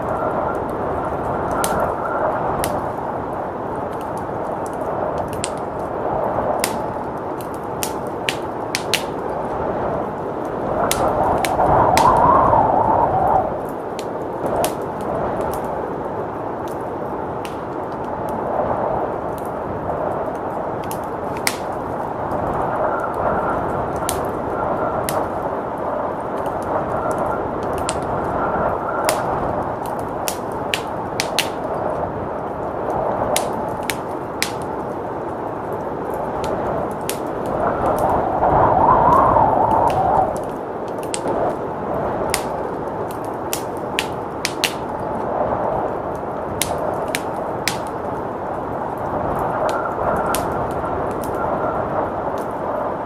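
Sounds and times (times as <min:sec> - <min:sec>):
blizzard wind rushing: 0:00.0 - 0:53.0
wood fire crackling and popping: 0:00.0 - 0:53.0.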